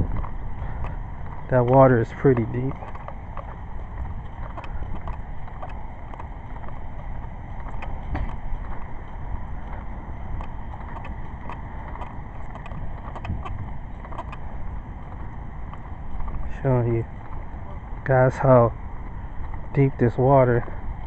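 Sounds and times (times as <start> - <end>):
wind buffeting microphone: 0.0 - 21.0
faint ticks: 0.2 - 8.9, 9.6 - 19.8.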